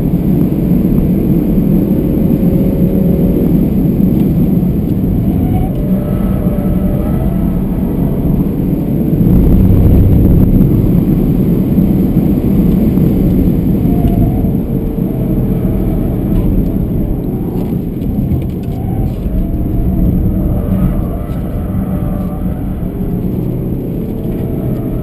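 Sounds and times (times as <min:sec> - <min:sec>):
diesel engine running hard: 0:00.0 - 0:25.0
wind noise: 0:00.0 - 0:25.0.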